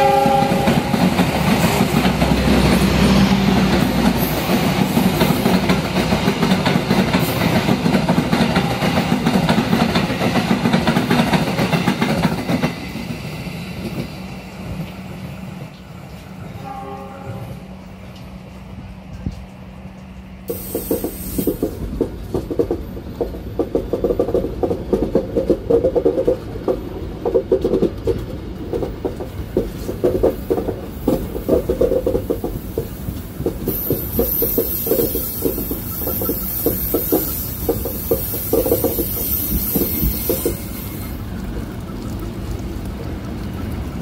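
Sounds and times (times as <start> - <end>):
wheels clattering on rails: 0.0 - 16.4, 17.3 - 44.0
train rumbling on track: 0.0 - 44.0.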